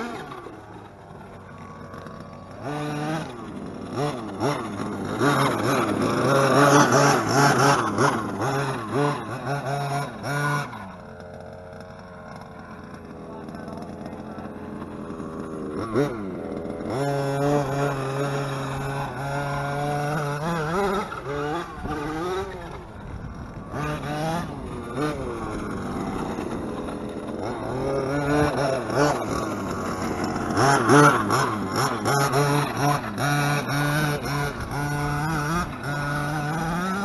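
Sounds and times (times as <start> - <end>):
small engine revving: 0.0 - 37.0.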